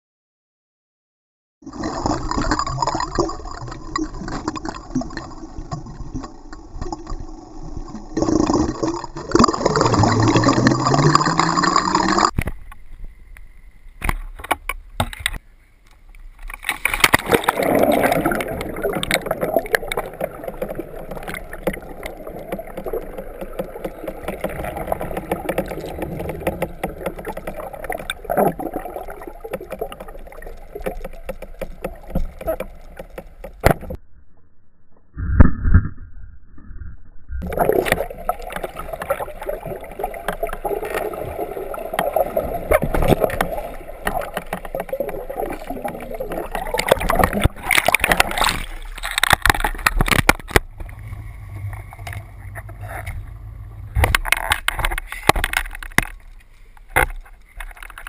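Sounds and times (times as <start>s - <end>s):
muffled underwater sloshing and bubbling: 1.6s - 34.0s, 37.4s - 58.0s.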